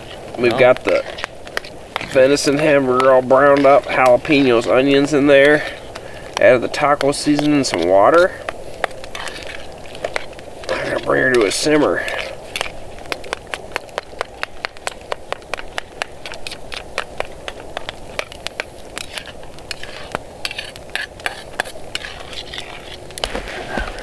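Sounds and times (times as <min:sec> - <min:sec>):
pan simmering hiss: 0:00.0 - 0:24.0
wood fire crackling and popping: 0:00.0 - 0:24.0.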